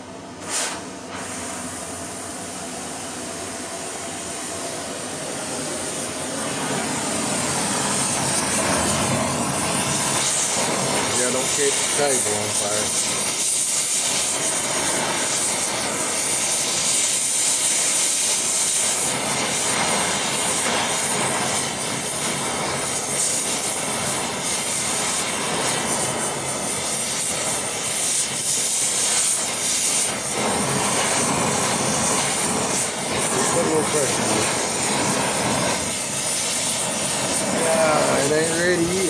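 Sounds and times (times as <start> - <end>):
gas torch flame hissing: 0.0 - 39.0.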